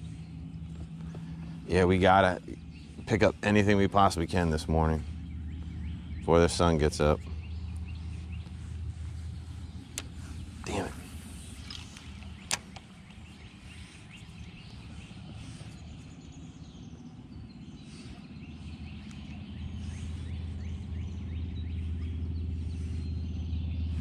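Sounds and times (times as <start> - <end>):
boat motor humming: 0.0 - 24.0
faint bird chirps: 0.0 - 24.0.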